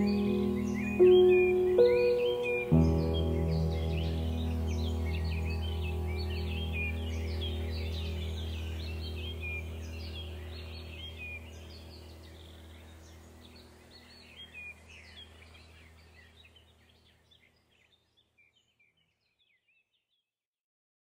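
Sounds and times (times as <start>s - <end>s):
low steady hum: 0.0s - 17.0s
birds chirping: 0.0s - 20.0s.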